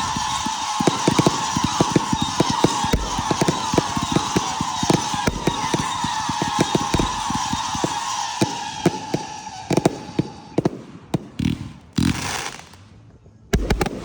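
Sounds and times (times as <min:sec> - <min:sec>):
loud firework bang: 0:00.0 - 0:12.4
falling firework whistle: 0:00.0 - 0:12.8
firework booms: 0:00.0 - 0:12.9, 0:13.5 - 0:14.0
firework crackling pops: 0:00.0 - 0:13.0, 0:13.6 - 0:14.0.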